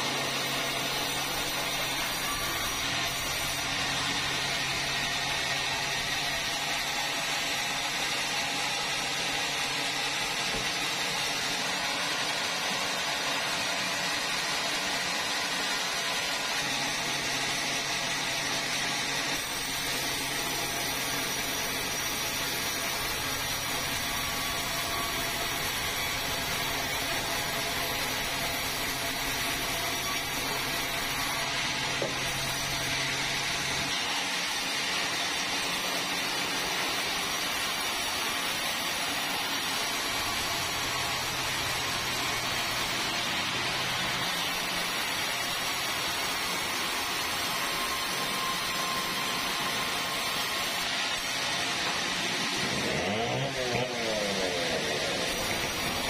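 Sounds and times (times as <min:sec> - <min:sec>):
band saw cutting timber: 0:00.0 - 0:56.0.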